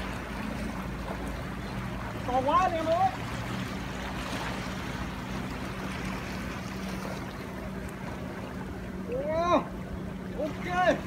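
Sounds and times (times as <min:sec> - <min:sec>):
low steady hum: 0:00.0 - 0:11.0
sea waves: 0:00.0 - 0:11.0
wind: 0:00.0 - 0:11.0.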